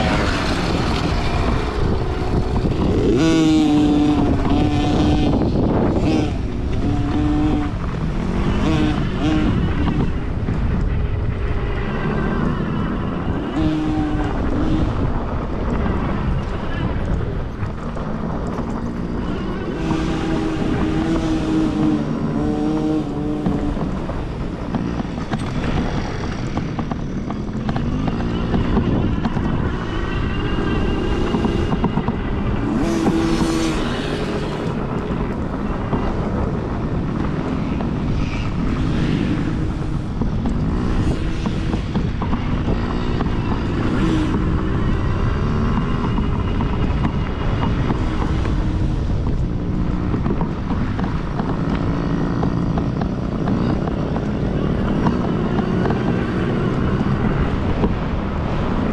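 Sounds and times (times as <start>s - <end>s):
dirt bike engines revving: 0.0s - 58.9s
wind on microphone: 0.0s - 58.9s.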